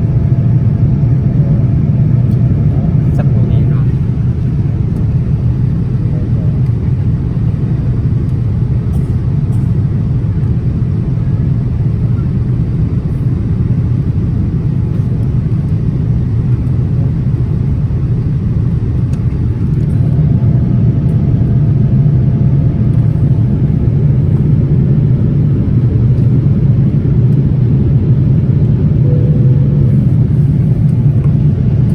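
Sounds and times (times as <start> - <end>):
airliner cabin engine rumble: 0.0 - 31.9.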